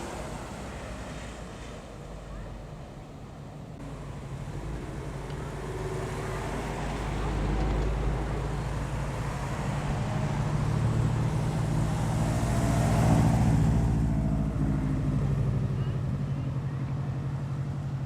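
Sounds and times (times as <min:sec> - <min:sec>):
car engine approaching: 0:00.0 - 0:18.0.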